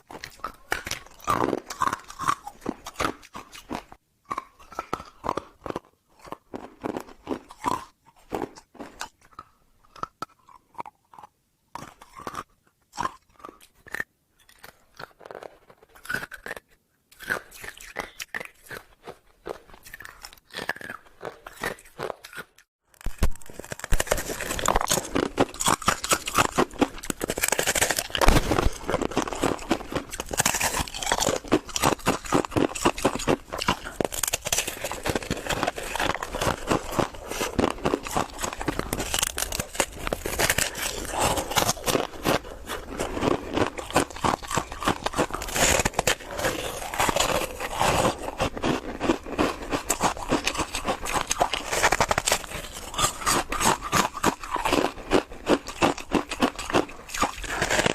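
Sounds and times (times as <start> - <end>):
person crunching ice: 0.0 - 9.1, 17.2 - 57.9.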